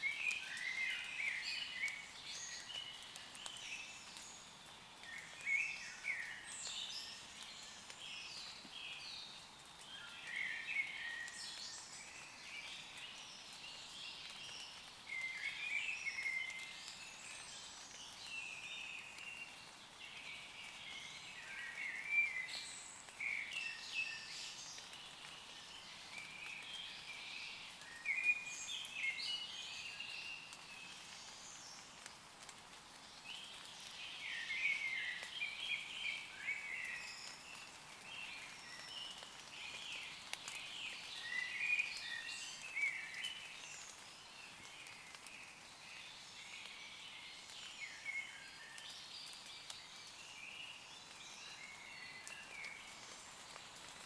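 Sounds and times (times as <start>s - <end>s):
light rain on leaves: 0.0s - 54.0s
songbirds singing: 0.0s - 54.0s.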